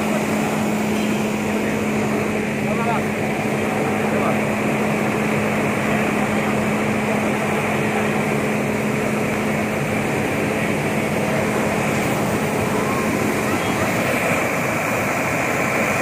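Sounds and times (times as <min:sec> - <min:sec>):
steady low hum: 0:00.0 - 0:16.0
steam locomotive hissing: 0:00.0 - 0:16.0.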